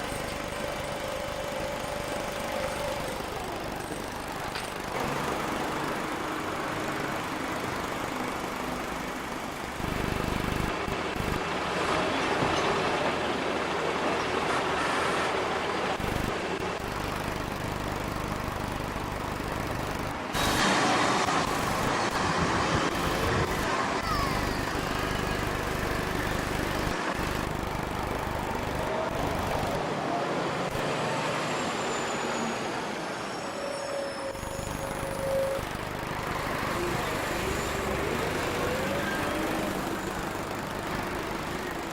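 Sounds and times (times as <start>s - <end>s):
heavy diesel engines running: 0.0s - 41.9s.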